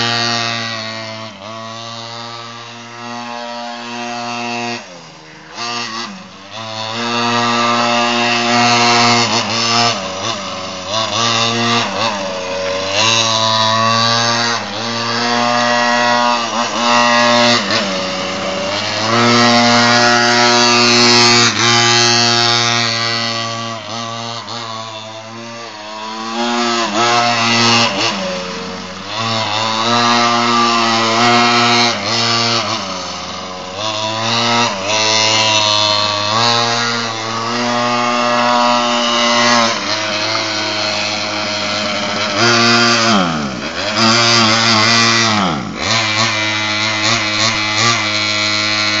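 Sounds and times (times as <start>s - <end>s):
minibike engine revving: 0.0s - 49.0s.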